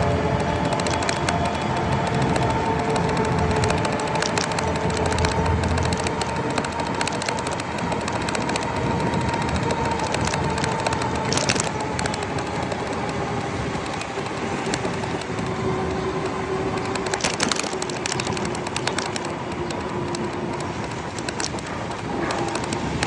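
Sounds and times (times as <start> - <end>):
motor vehicle rumble: 0.0 - 23.0
scattered clicks: 0.0 - 23.0.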